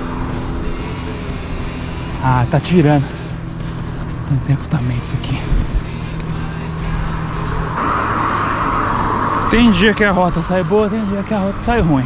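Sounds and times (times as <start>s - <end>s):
background music: 0.0s - 12.0s
road noise: 0.0s - 12.0s
vehicle passing: 0.0s - 12.0s.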